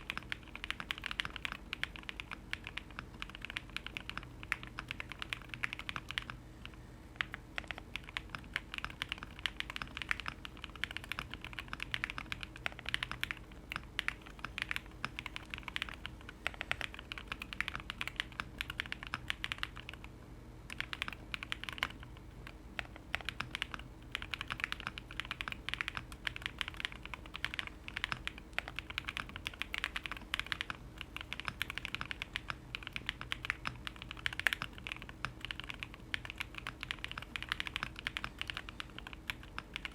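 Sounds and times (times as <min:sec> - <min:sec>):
mechanical keyboard typing: 0:00.0 - 0:20.1, 0:20.7 - 0:39.9.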